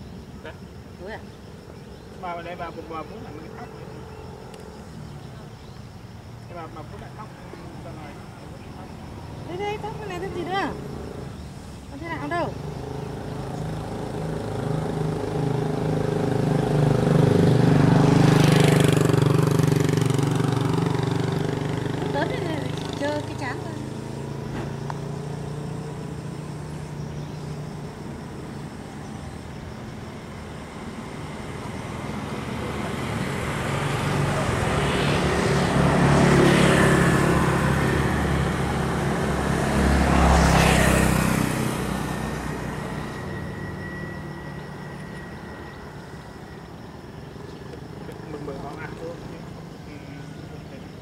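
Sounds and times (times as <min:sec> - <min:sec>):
road vehicles passing: 0:00.0 - 0:51.0.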